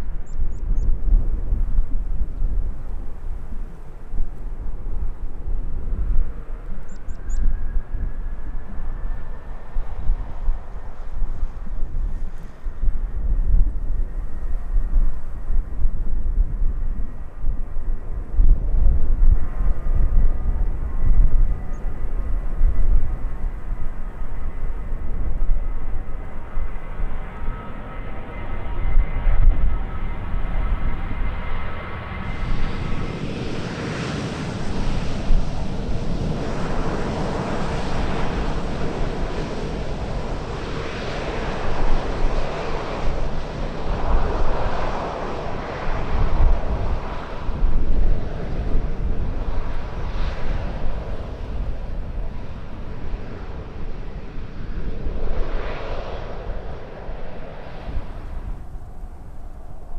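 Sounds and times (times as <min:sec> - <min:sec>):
jet engines rushing rumble: 0:00.0 - 0:59.9.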